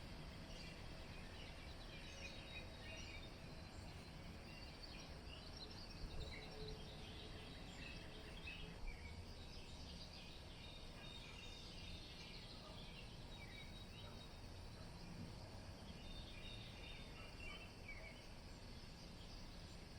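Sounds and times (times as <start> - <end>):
distant songbirds chirping: 0.0 - 19.9.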